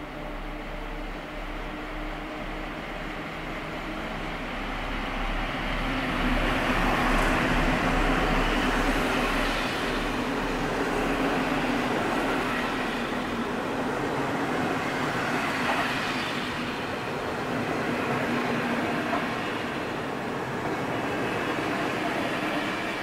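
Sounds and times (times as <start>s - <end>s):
wheels rumbling on rail: 0.1s - 23.0s.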